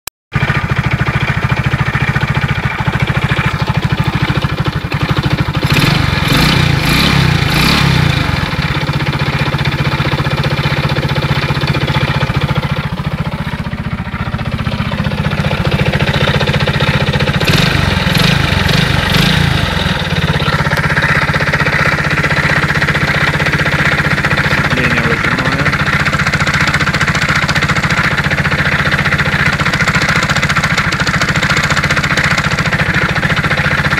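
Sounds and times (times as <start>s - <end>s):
car engine idling with knock: 0.4s - 33.9s.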